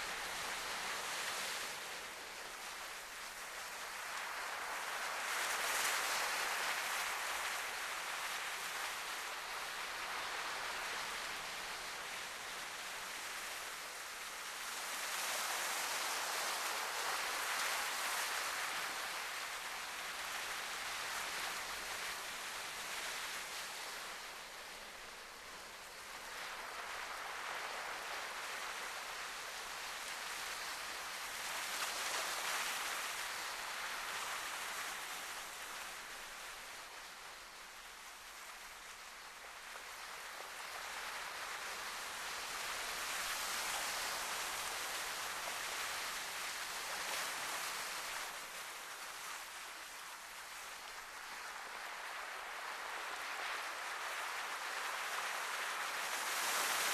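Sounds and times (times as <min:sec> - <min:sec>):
sea waves washing ashore: 0:00.0 - 0:56.9.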